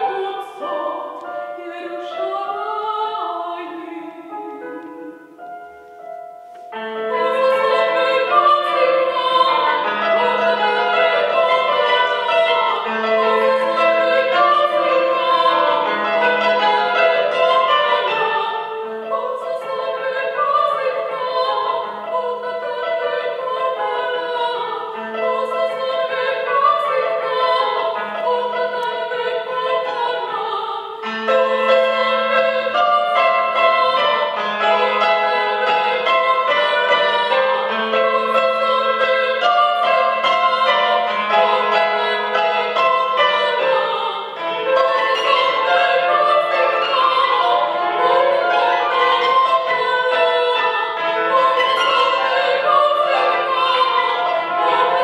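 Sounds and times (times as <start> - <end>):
woman singing operatically: 0.0 - 4.6, 7.1 - 55.0.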